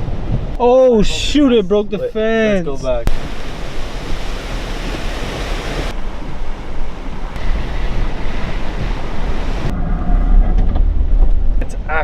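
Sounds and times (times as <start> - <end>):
hurricane wind and rain: 0.0 - 12.0.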